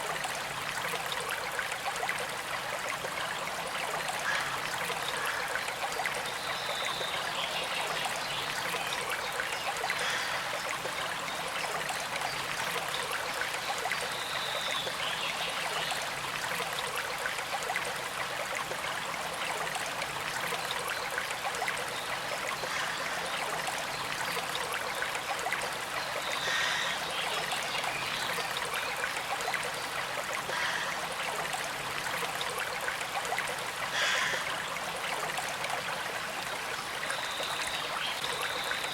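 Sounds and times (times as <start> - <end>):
creek flowing and trickling: 0.0 - 38.9.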